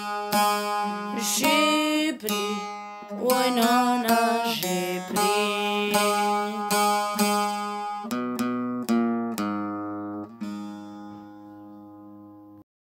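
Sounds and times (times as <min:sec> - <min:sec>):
plucked lutes playing folk melody: 0:00.0 - 0:12.6.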